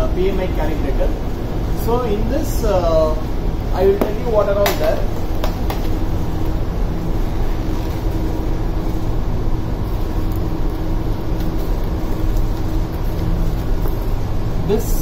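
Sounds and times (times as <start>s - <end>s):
engine room machinery drone: 0.0s - 15.0s.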